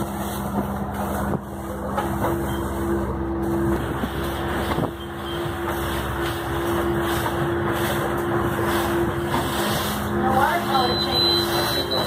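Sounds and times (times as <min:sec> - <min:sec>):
boat engine hum: 0:00.0 - 0:12.0
water rushing along hull: 0:00.0 - 0:12.0.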